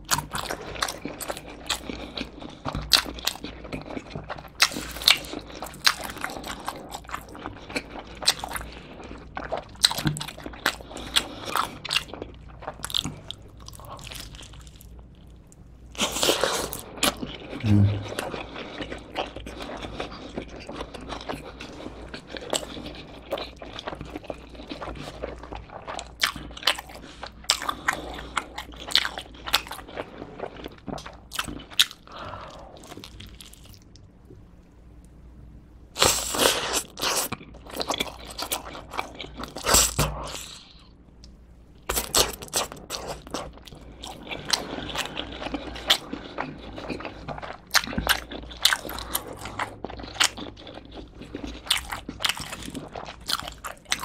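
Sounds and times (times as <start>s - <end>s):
chewing crunchy pizza crust: 0.0s - 35.2s, 36.0s - 54.0s.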